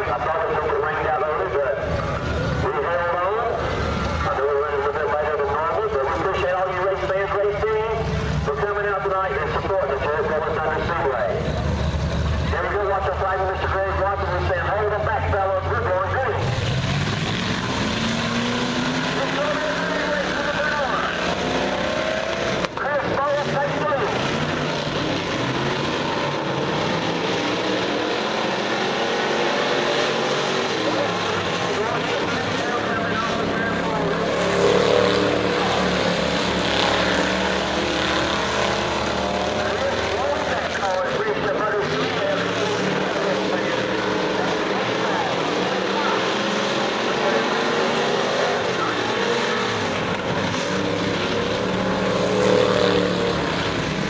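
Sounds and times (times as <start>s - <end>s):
race car engines at speed: 0.0s - 54.0s.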